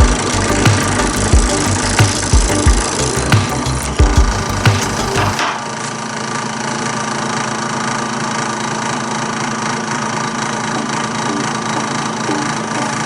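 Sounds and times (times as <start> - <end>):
drill press humming: 0.0 - 13.0.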